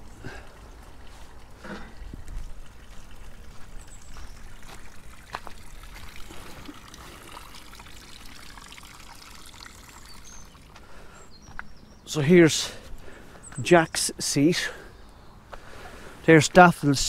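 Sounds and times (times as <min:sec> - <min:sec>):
water trickling over stone steps: 0:00.0 - 0:14.1.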